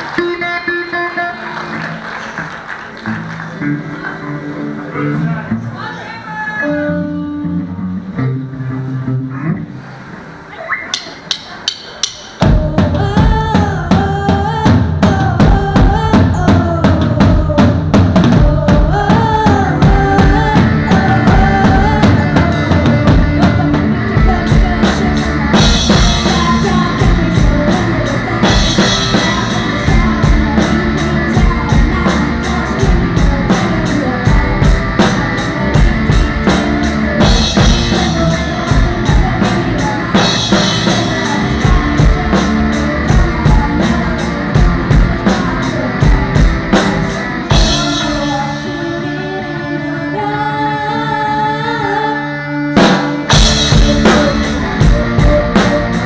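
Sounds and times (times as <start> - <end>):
band playing: 0.0 - 56.0.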